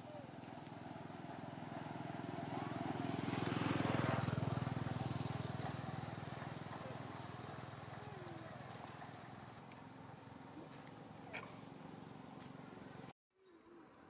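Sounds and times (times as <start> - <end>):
vehicle engine passing: 0.0 - 13.1.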